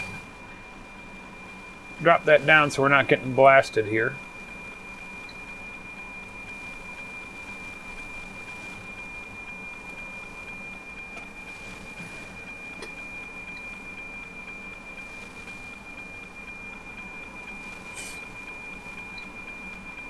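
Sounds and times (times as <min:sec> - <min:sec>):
high whistling radio tone: 0:00.0 - 0:20.0.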